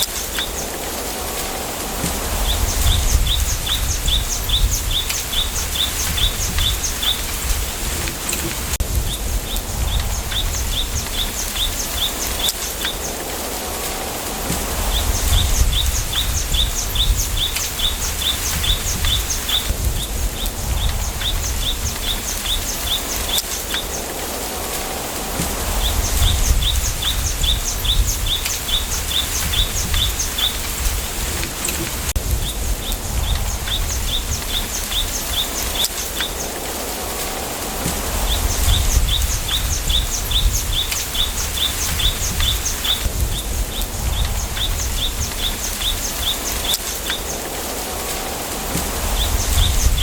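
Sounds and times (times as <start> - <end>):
wind rustling through bamboo: 0.0 - 50.0.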